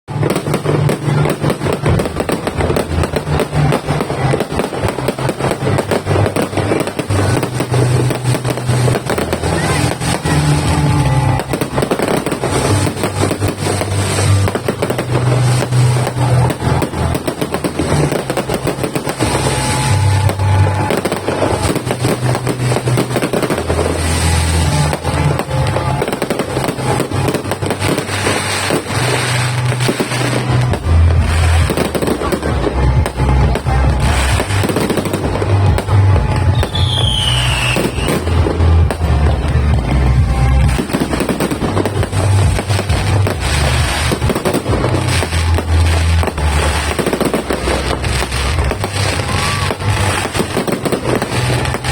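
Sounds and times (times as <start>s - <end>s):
fireworks bangs in rapid succession: 0.1s - 51.9s
music playing: 0.2s - 51.9s.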